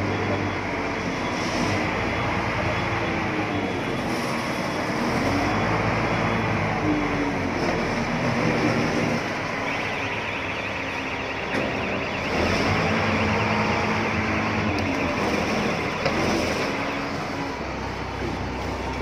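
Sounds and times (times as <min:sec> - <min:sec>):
street noise: 0:00.0 - 0:19.0.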